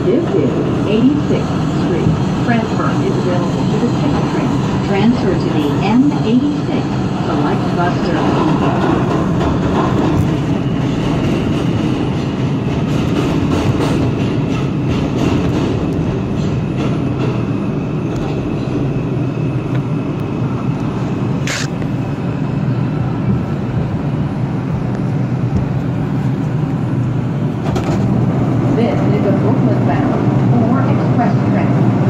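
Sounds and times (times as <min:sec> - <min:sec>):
subway train rumbling in tunnel: 0:00.0 - 0:32.0.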